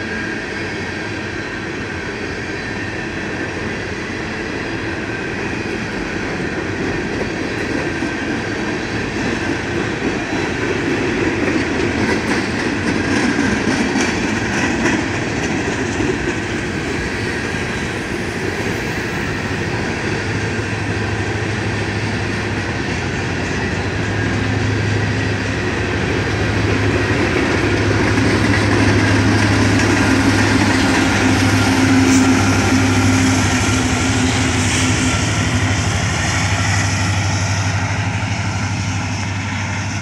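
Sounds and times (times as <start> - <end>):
freight cars rolling on rails: 0.0 - 40.0.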